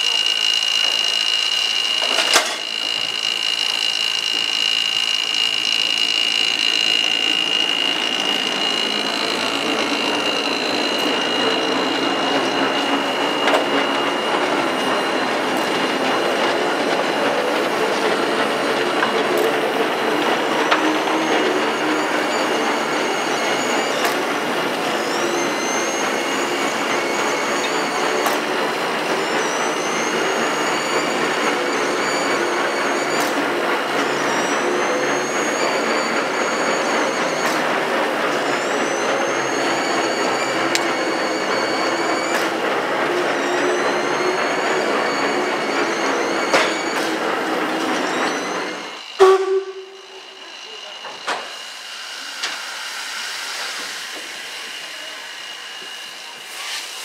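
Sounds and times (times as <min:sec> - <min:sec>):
high steady tone: 0:00.0 - 0:51.2
high metal squeals: 0:00.0 - 0:57.0.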